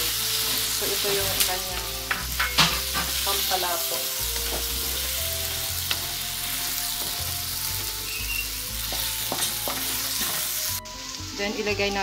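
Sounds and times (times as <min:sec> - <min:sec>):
chicken sizzling in hot fat: 0:00.0 - 0:12.0.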